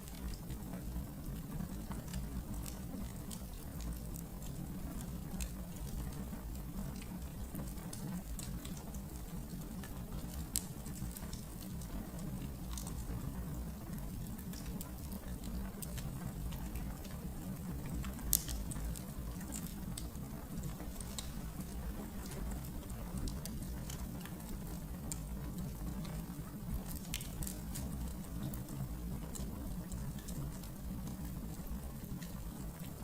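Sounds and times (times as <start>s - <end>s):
fire crackling and popping: 0.0s - 33.0s
fire rumbling: 0.0s - 33.0s.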